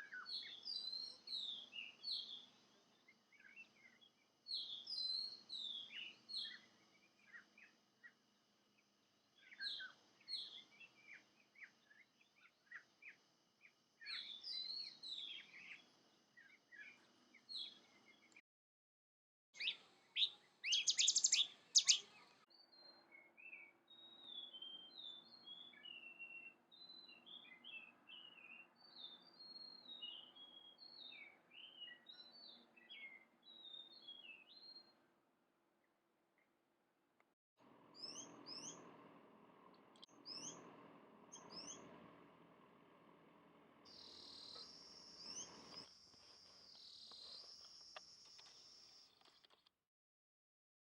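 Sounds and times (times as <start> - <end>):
songbirds chirping: 0.0 - 18.4, 19.6 - 36.7, 37.7 - 49.7.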